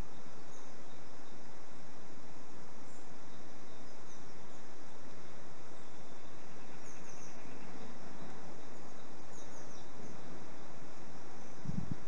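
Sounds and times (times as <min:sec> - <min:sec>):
outdoor background hiss: 0:00.0 - 0:12.0
songbird chirps: 0:00.0 - 0:12.0.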